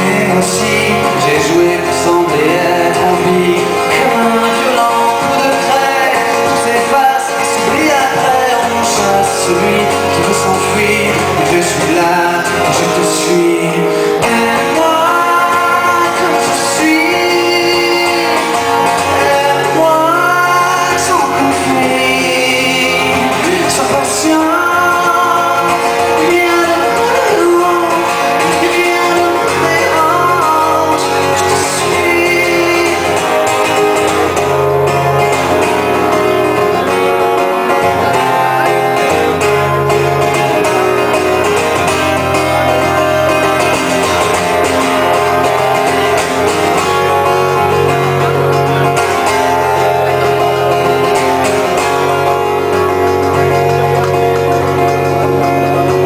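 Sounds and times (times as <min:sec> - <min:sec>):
bass line: 0:00.0 - 0:56.0
strummed acoustic guitar: 0:00.0 - 0:56.0.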